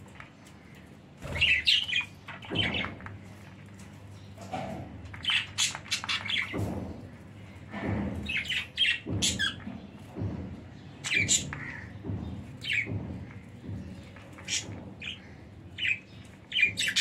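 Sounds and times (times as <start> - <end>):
budgerigars chirping and squawking: 0.8 - 10.2, 11.0 - 17.0.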